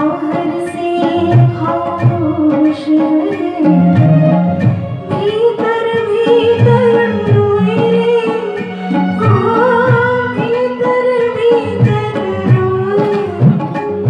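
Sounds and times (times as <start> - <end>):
tabla: 0.0 - 14.0
woman singing into a microphone: 0.0 - 14.0.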